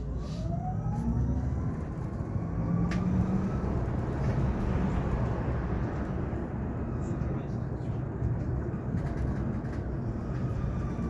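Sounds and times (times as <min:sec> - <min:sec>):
bus road and tyre rumble: 0:00.0 - 0:11.0.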